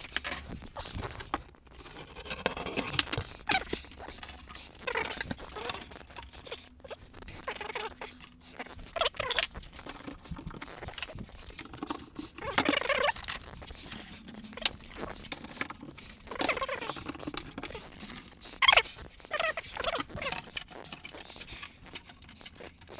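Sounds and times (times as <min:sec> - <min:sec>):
cardboard rustling and crinkling: 0:00.0 - 0:22.9.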